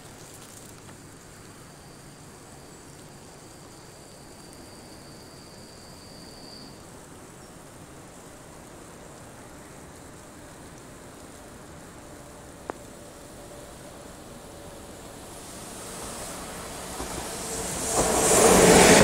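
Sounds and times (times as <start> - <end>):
wet outdoor ambience hiss: 0.0 - 19.0.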